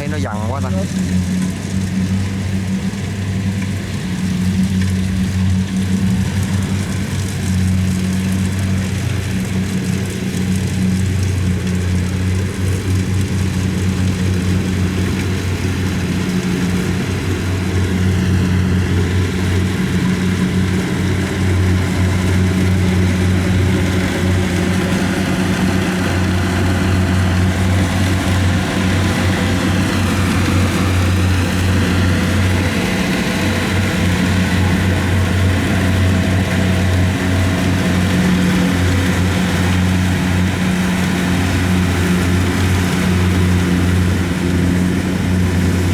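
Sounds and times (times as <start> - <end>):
combine harvester engine hum: 0.0 - 45.9.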